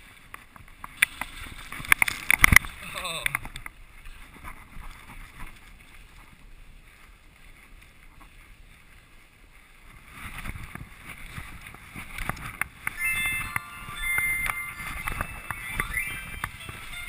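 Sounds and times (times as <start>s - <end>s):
skis and poles scraping snow: 0.0s - 2.8s, 3.9s - 17.0s
skis swishing over snow: 0.0s - 2.8s, 3.9s - 17.0s
wind on microphone: 0.0s - 17.0s.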